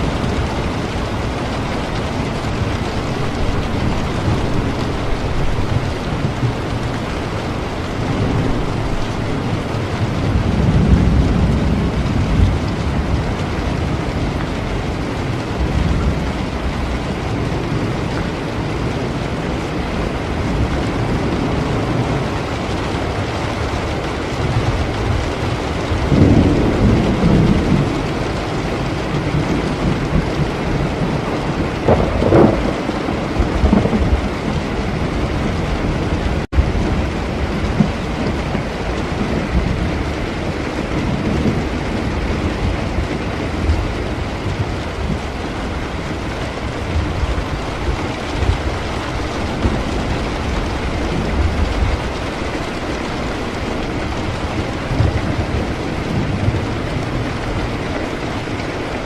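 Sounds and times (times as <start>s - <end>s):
heavy rain: 0.0s - 59.0s
low rolling thunder: 0.0s - 59.0s.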